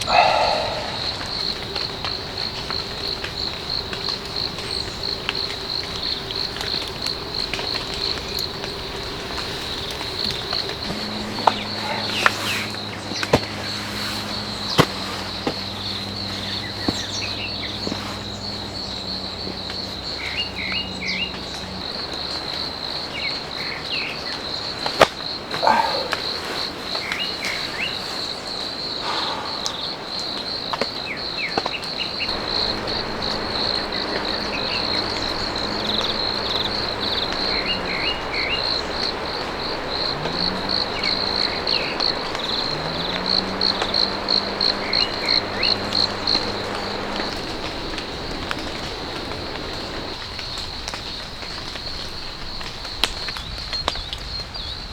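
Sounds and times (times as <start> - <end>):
crickets trilling: 0.0 - 54.9
rain hissing in forest: 0.0 - 54.9.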